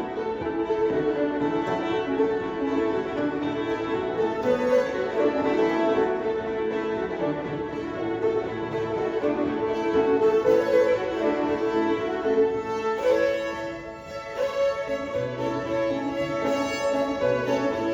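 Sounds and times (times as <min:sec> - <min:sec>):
banjo playing: 0:00.0 - 0:17.9
fiddles playing: 0:00.0 - 0:17.9.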